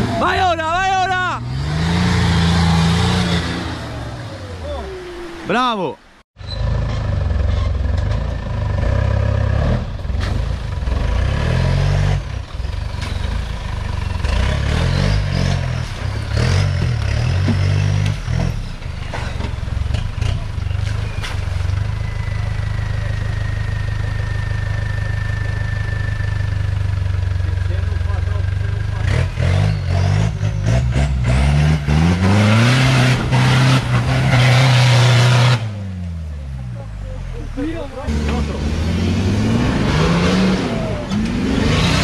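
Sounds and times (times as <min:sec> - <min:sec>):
engine revving: 0:00.0 - 0:04.6, 0:06.5 - 0:19.2, 0:19.9 - 0:42.0.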